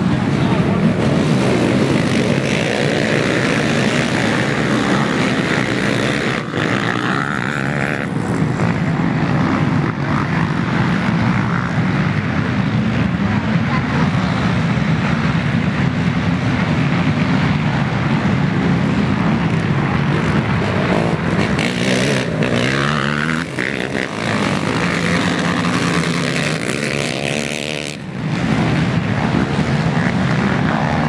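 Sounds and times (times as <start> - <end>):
racing quad engines revving: 0.0 - 31.0.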